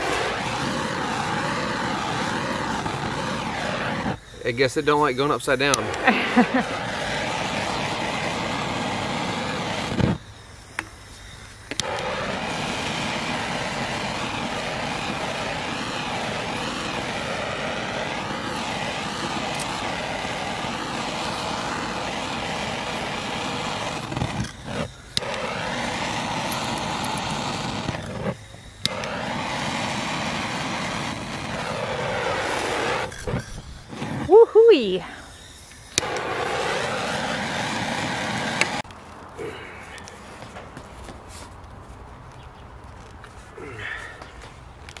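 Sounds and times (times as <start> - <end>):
propane torch roaring: 0.0 - 45.0.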